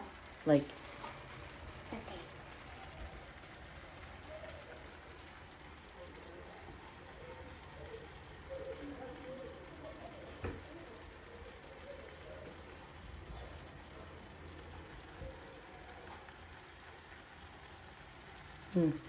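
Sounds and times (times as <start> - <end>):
food sizzling and crackling: 0.0 - 19.0.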